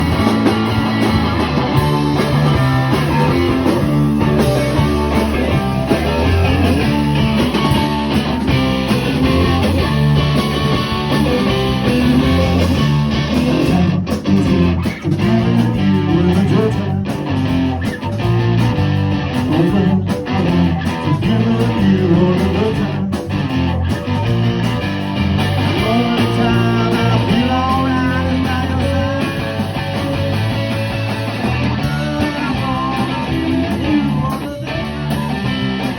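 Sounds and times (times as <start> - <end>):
guitar rock music: 0.0 - 35.9.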